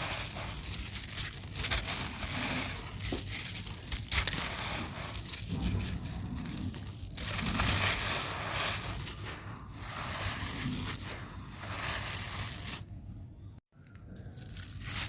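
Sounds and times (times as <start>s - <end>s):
cement crumbling and crunching: 0.0s - 15.0s.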